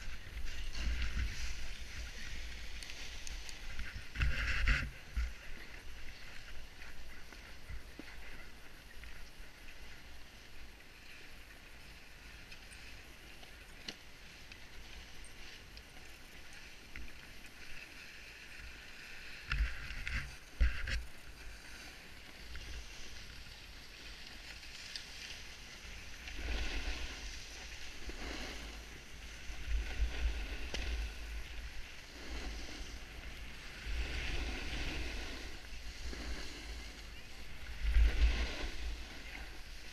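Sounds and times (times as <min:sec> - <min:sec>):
skis scraping on snow: 0:00.0 - 0:39.9.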